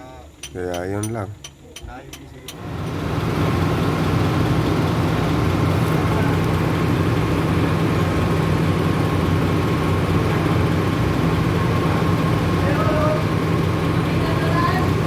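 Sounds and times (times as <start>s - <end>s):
large engine droning: 2.2s - 15.0s.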